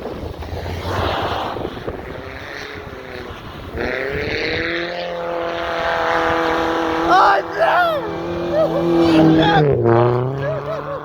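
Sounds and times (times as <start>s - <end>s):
motorbike engine revving: 1.1s - 11.0s
motocross bike engines running: 1.8s - 11.0s.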